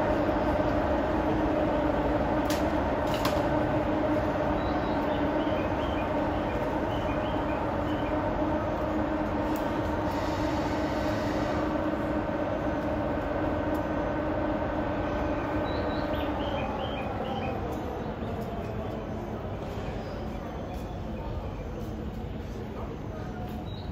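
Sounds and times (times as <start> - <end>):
locomotive blowers humming: 0.0 - 20.4.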